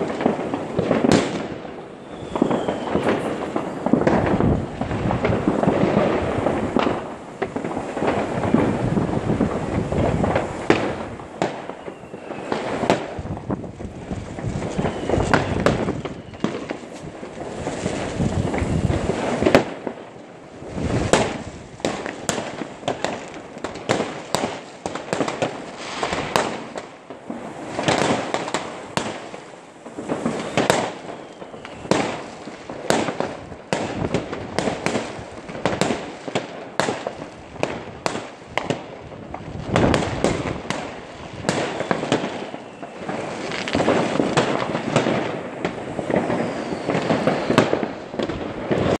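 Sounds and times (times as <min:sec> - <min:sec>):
fireworks bangs: 0:00.0 - 0:49.0
fireworks crackling: 0:00.0 - 0:49.0.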